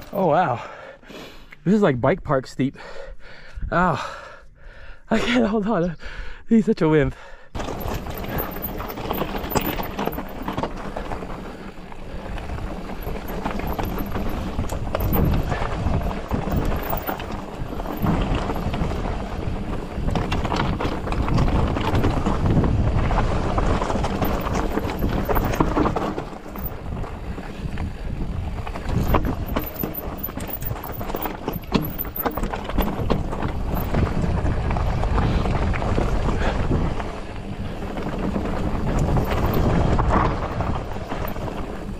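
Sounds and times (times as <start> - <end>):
bike rattling and knocking: 7.6 - 41.9
bike tyres grinding over gravel: 7.6 - 41.9.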